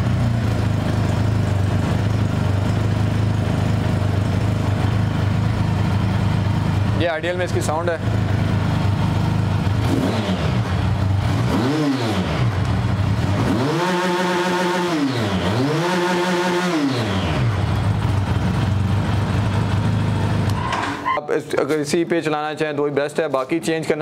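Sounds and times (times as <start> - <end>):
motorcycle engine idling and revving: 0.0 - 21.2.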